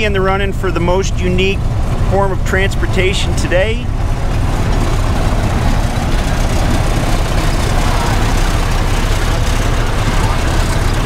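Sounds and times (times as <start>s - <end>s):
small vehicle engines rumbling: 0.0s - 11.0s
wind: 0.0s - 11.0s
rolling noise: 1.4s - 11.0s.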